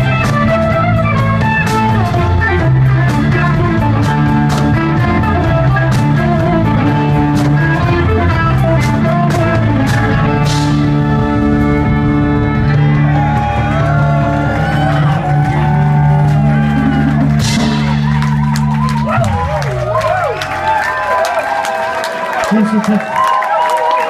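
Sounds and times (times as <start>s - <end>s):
drum kit: 0.0s - 21.9s
bass guitar: 0.0s - 22.3s
electric guitar: 0.0s - 23.3s.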